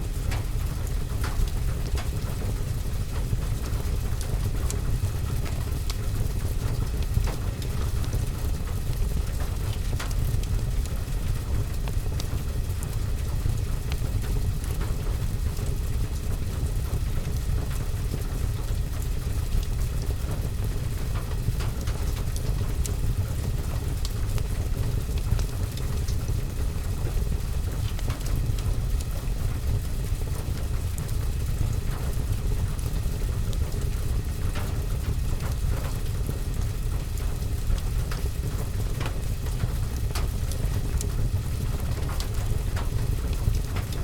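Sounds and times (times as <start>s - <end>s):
fire crackling: 0.1s - 44.0s.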